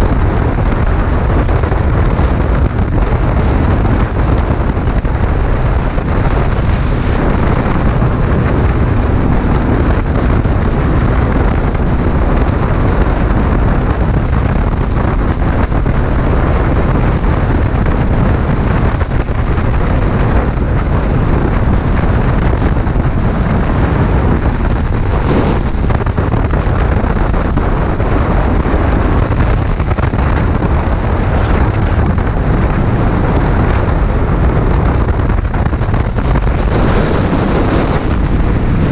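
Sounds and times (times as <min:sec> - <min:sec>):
heavy wind rush on microphone: 0:00.0 - 0:38.9.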